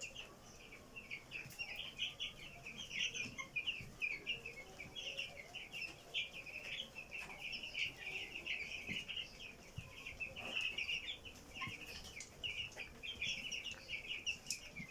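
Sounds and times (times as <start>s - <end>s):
chickens chirping: 0.0s - 14.9s.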